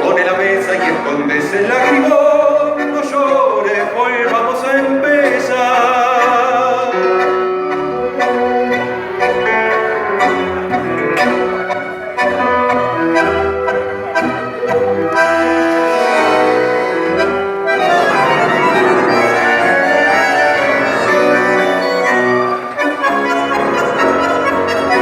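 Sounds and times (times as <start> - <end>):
tango orchestra with bandoneons: 0.0 - 25.0.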